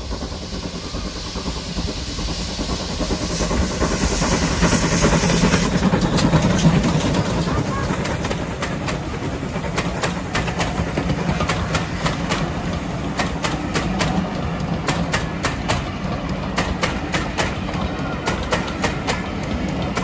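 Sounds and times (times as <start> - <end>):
train coaches rumbling past: 0.0 - 20.0.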